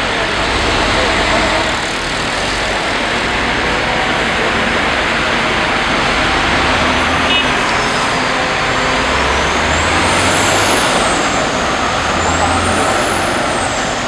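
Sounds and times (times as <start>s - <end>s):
crane diesel engine running: 0.0s - 14.0s.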